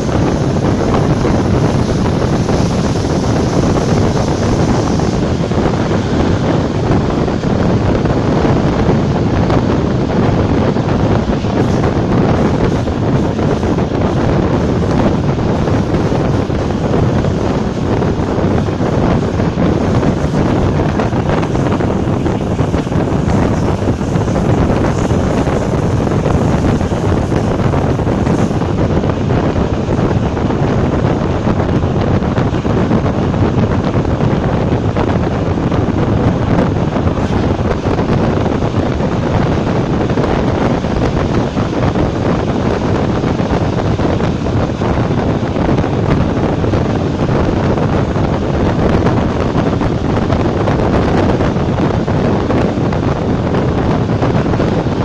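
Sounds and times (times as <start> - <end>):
train rushing at speed: 0.0 - 55.0
wind buffeting microphone: 0.0 - 55.0.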